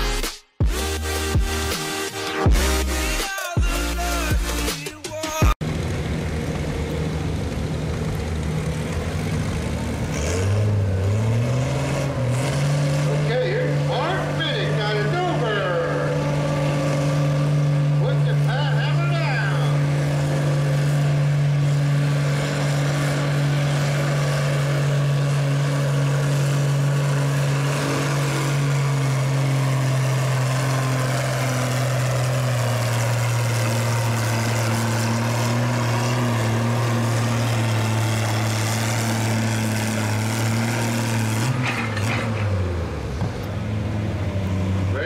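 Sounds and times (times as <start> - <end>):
tractor engine running under load: 5.6 - 45.0.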